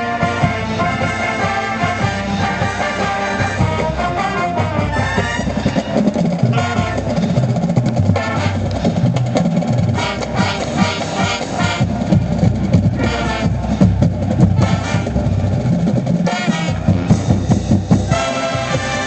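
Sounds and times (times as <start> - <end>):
brass chords: 0.0 - 9.0, 9.9 - 19.0
marching drums rhythmic pattern: 0.0 - 19.0.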